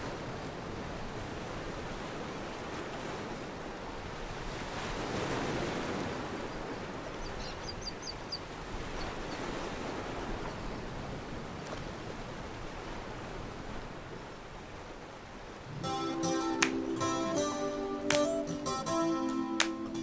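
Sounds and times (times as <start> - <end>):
sea waves washing: 0.0 - 20.0.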